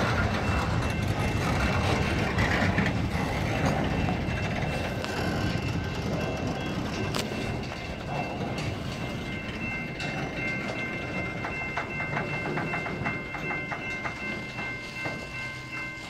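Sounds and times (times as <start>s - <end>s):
freight train rumbling past: 0.0s - 16.0s
high-pitched ringing tone: 0.0s - 16.0s
wheels clicking over rail joints: 0.0s - 16.0s.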